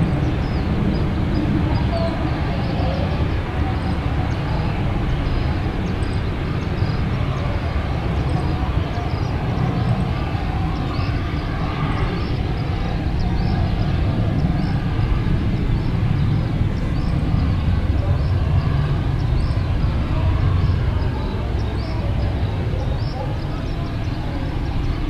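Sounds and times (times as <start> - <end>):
distant jet engines rumbling: 0.0 - 25.0.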